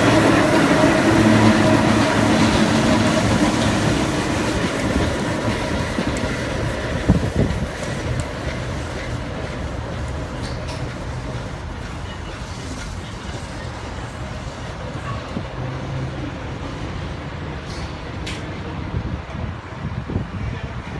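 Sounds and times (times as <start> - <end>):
city traffic noise: 0.0 - 20.9
distant train rumble: 0.0 - 20.9.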